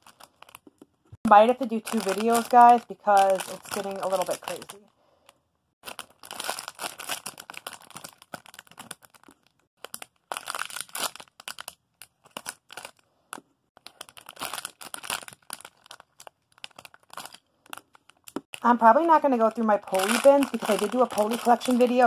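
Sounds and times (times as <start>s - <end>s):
plastic packaging crinkling: 0.0s - 4.9s, 5.8s - 13.0s, 13.8s - 22.0s.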